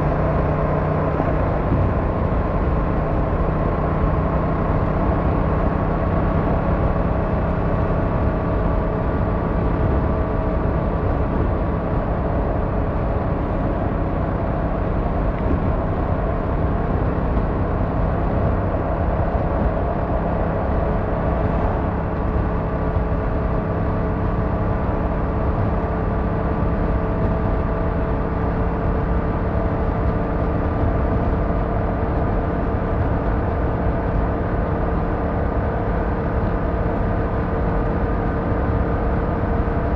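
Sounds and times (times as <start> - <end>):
car engine and tyre hum: 0.0 - 39.9.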